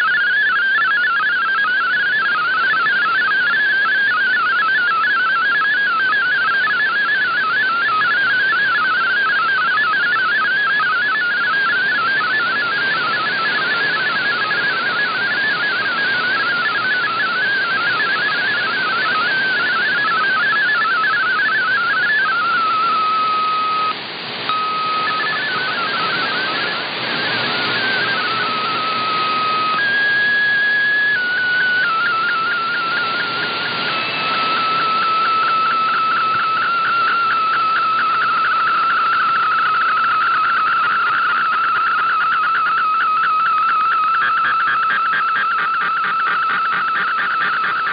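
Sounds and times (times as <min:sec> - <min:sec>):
digital radio signal tones: 0:00.0 - 0:47.9
radio static hiss: 0:00.0 - 0:47.9.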